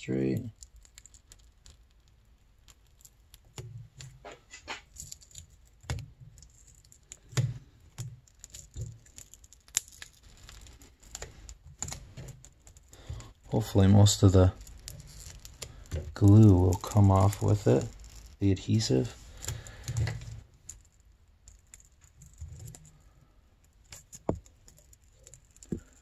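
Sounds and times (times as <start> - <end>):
plastic film peeling crackles: 0.1 - 26.0.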